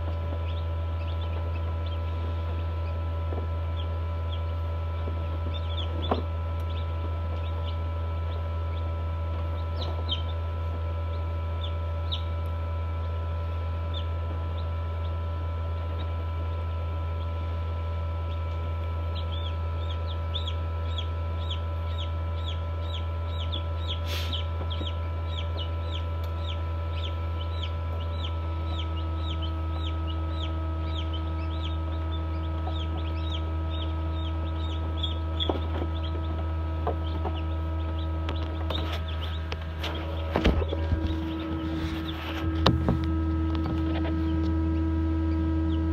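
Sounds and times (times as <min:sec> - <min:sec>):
chicks peeping: 0:00.0 - 0:45.9
incubator humming: 0:00.0 - 0:45.9.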